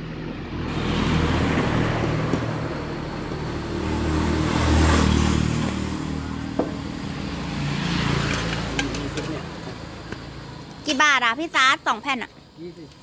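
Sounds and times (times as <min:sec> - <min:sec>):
motorcycles passing: 0:00.0 - 0:12.0.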